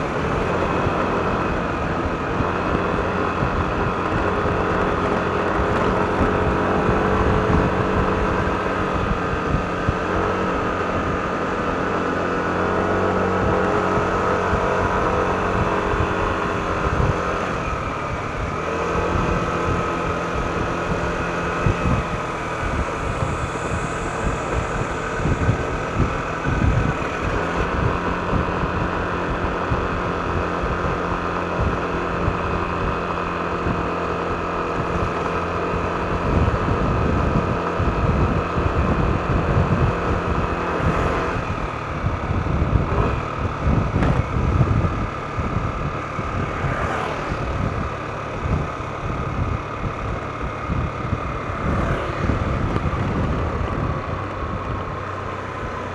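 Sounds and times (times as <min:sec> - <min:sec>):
road noise rumble: 0:00.0 - 0:55.9
scooter engine humming: 0:00.0 - 0:55.9.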